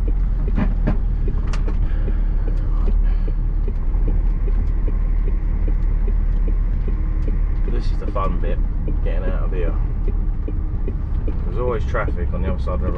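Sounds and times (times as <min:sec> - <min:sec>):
lorry diesel engine rumbling: 0:00.0 - 0:12.9.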